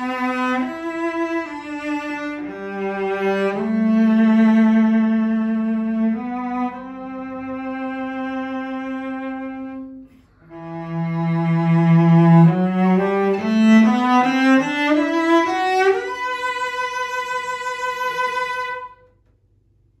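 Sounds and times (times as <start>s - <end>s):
cello being bowed: 0.0s - 19.3s.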